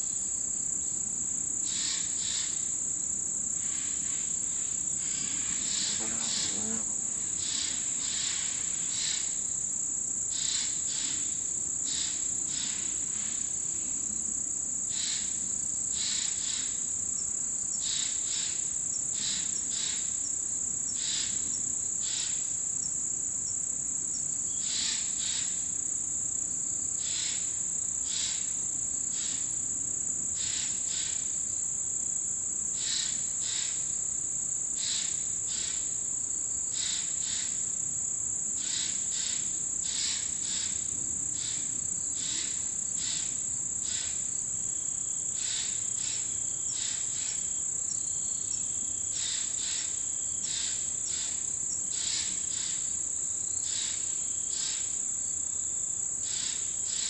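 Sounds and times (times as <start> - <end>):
insect chirps: 0.0 - 57.0
insects high-pitched trill: 0.0 - 57.0.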